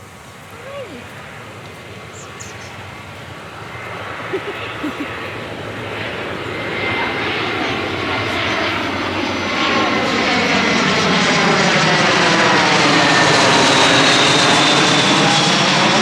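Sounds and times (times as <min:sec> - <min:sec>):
airliner engine noise: 0:00.0 - 0:16.0.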